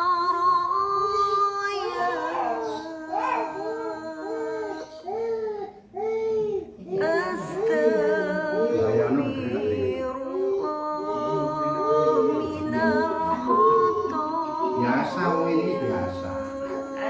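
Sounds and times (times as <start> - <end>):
small child crying: 0.4 - 15.1.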